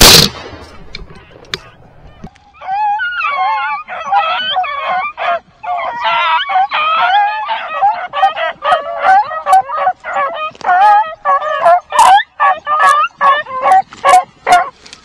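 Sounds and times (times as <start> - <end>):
dogs baying and yelping: 1.2 - 14.8.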